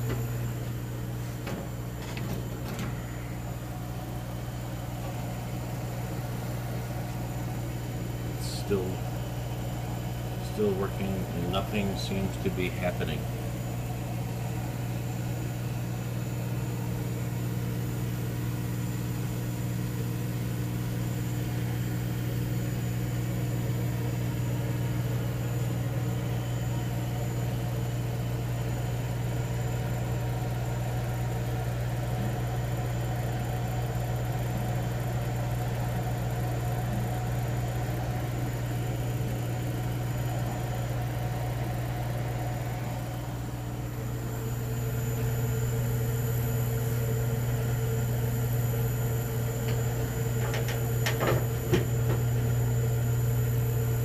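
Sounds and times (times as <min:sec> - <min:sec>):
laser engraver electrical hum: 0:00.0 - 0:54.0.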